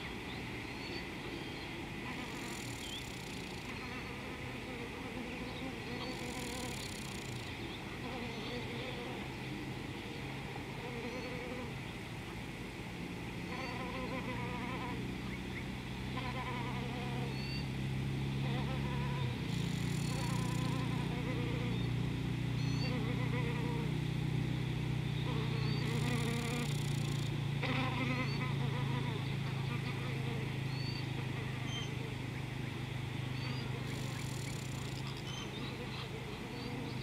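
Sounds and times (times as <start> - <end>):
insects buzzing: 0.0 - 37.0
steady low hum: 0.0 - 37.0.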